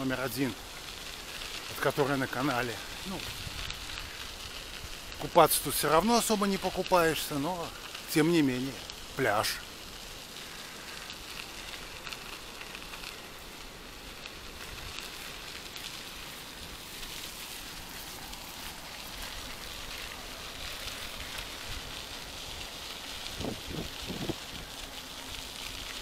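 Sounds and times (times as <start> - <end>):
bike tyres rolling on dirt: 0.0 - 26.0.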